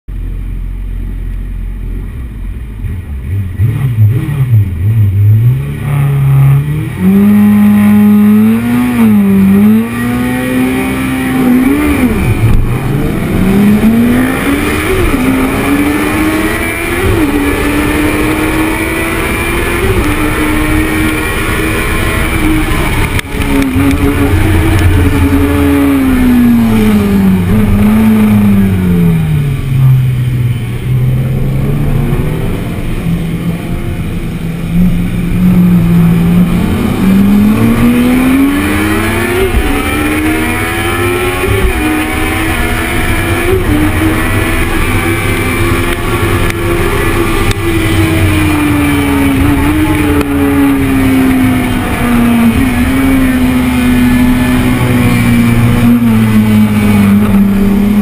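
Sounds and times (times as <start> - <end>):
motorcycle engine accelerating: 2.4 - 58.0.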